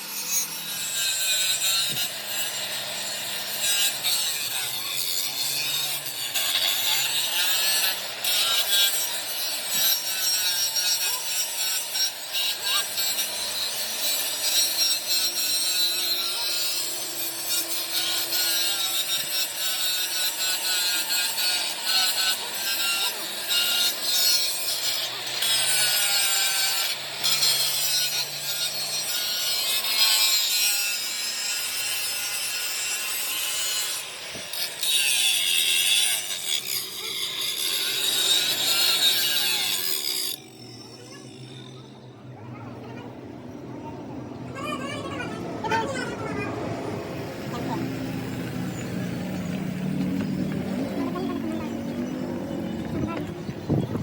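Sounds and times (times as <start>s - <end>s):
abrasive tool grinding steel: 0.0s - 43.6s, 44.3s - 54.0s.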